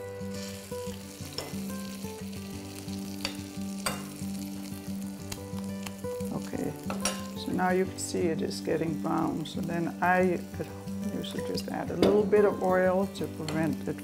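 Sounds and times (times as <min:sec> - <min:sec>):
meatball sizzling in butter: 0:00.0 - 0:14.0
soft guitar music: 0:00.0 - 0:14.0.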